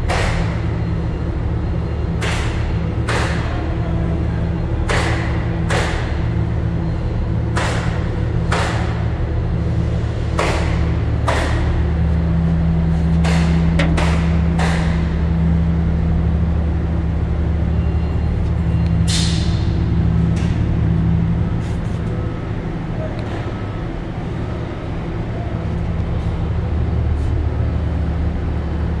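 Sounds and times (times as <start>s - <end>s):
electrical machinery hum: 0.0s - 29.0s.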